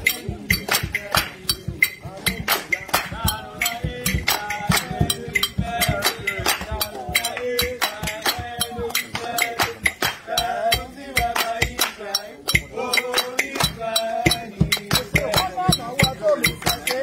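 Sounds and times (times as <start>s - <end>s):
person singing: 0.0s - 17.0s
sharp percussion beat: 0.0s - 17.0s.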